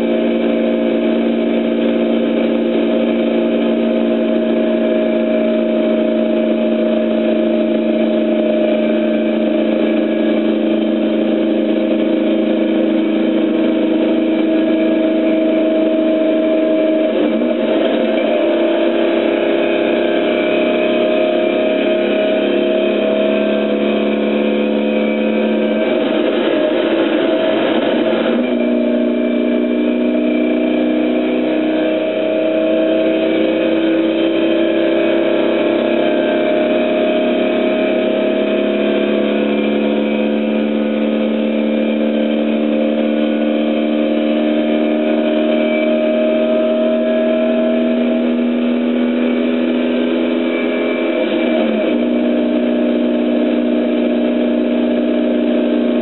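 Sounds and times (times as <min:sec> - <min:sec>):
racing car engine under load: 0:00.0 - 0:56.0.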